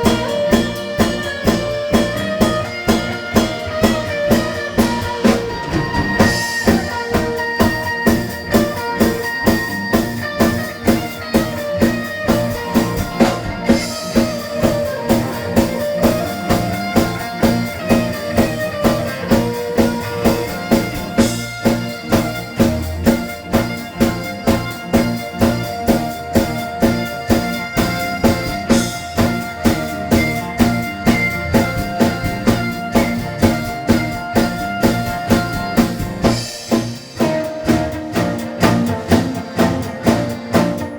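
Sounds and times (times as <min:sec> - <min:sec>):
drum kit beat: 0:00.0 - 0:40.9
live band playing: 0:00.0 - 0:40.9.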